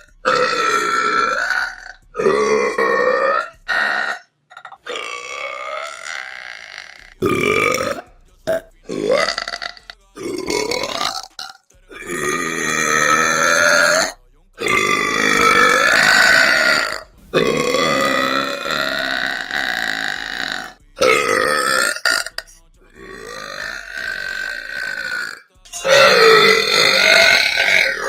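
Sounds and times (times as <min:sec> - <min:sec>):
woman belching: 0:00.0 - 0:28.0.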